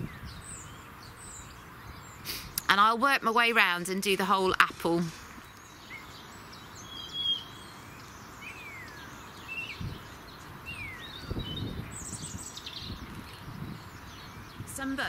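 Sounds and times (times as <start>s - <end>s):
songbirds chirping: 0.0s - 15.0s
steady outdoor hiss: 0.0s - 15.0s.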